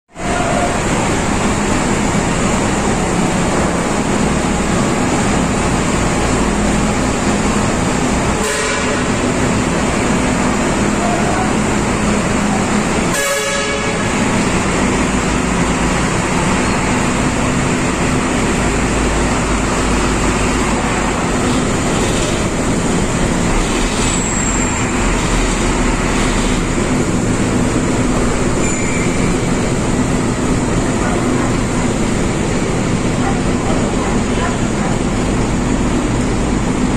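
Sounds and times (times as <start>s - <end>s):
diesel truck engines running: 0.1s - 36.9s.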